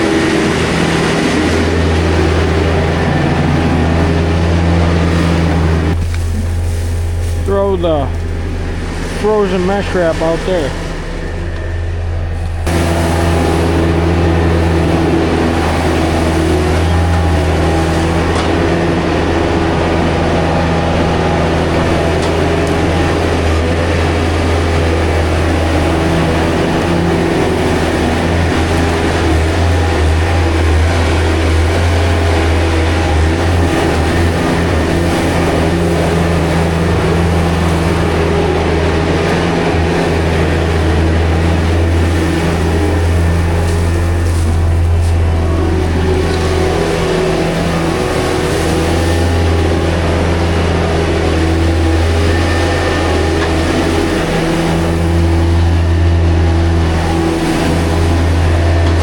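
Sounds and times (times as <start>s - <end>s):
skid loader engine running: 0.0s - 59.0s.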